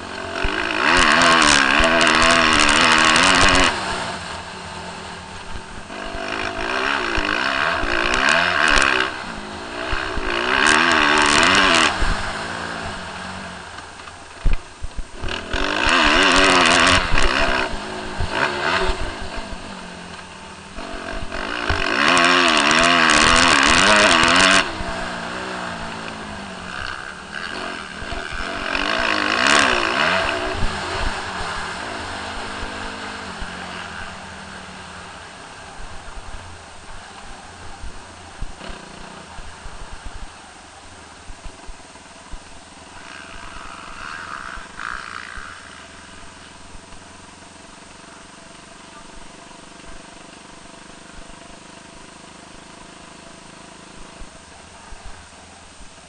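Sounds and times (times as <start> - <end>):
motocross bike engine surging: 0.0 - 56.0.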